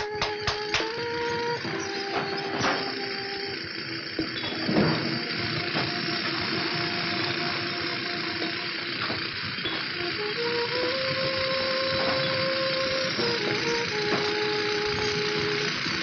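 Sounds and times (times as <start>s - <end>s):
stone quarrying machinery din: 0.0s - 15.5s.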